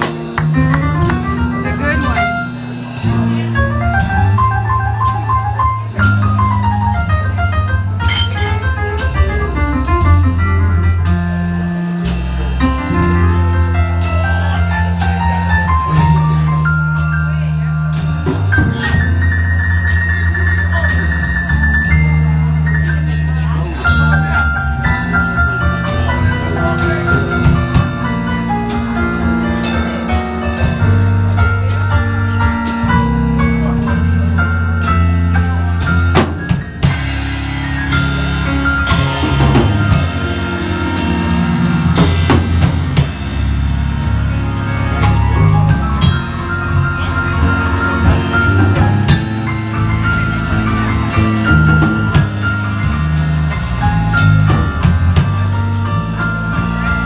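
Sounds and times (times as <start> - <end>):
bass drum: 0.0 - 57.0
electric bass line: 0.0 - 57.0
keyboard: 0.0 - 57.0
live band playing: 0.0 - 57.0.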